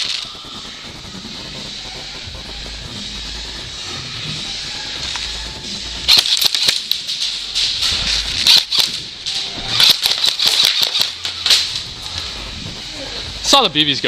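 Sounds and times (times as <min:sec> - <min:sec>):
pellets striking around room: 0:01.5 - 0:12.9.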